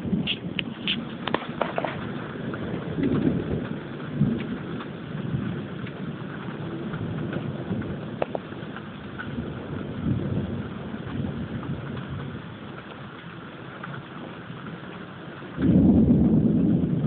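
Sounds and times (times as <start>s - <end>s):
low rumbles of thunder: 0.0s - 17.0s
rain falling steadily: 0.0s - 17.0s.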